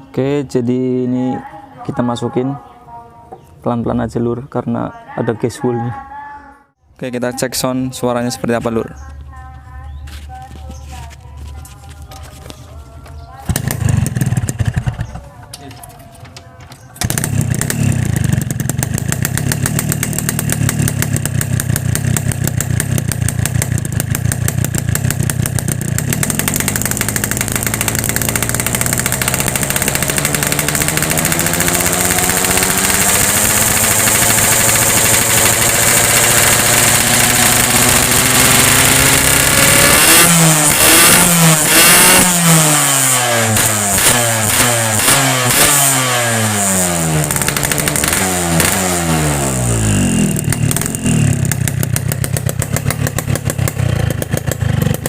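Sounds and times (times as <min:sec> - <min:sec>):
motorcycle engine idling and revving: 0:07.4 - 0:55.0.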